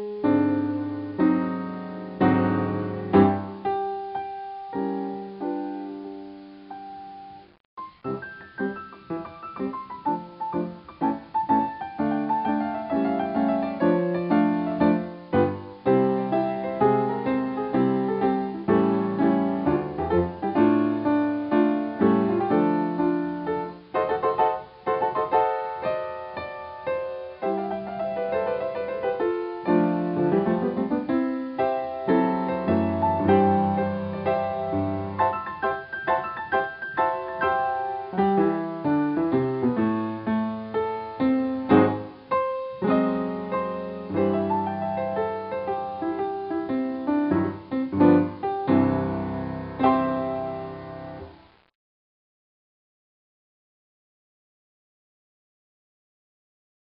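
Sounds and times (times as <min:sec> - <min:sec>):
piano music: 0:00.0 - 0:51.4.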